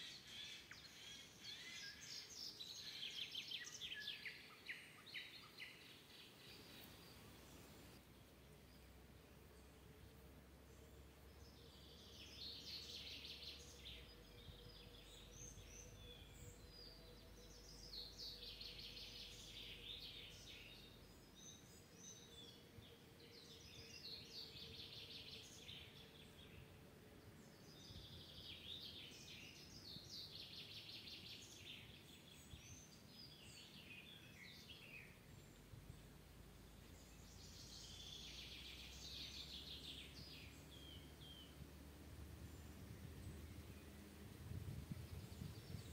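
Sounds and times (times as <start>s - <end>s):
songbird singing: 0.0s - 45.9s
faint low hum: 5.8s - 30.2s, 31.9s - 45.9s.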